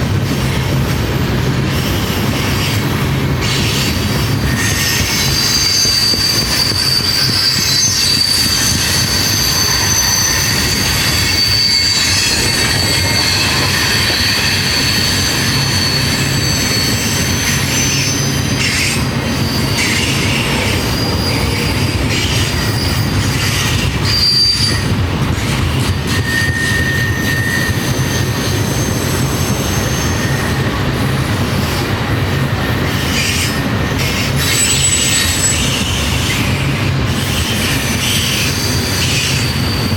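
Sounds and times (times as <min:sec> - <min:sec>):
freight train rumbling past: 0:00.0 - 0:39.9
high-pitched wheel squeal: 0:03.4 - 0:24.9, 0:26.1 - 0:30.7, 0:33.0 - 0:39.9.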